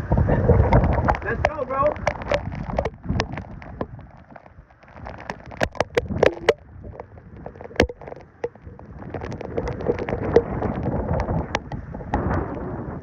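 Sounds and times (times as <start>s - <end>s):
rain: 0.0s - 13.0s
wind on microphone: 0.0s - 13.0s
sharp clicks and knocks: 0.6s - 12.3s.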